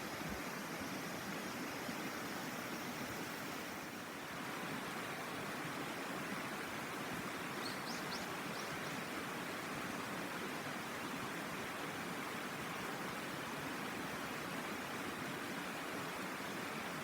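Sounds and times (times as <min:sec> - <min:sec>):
river murmuring over stones: 0:00.0 - 0:17.0.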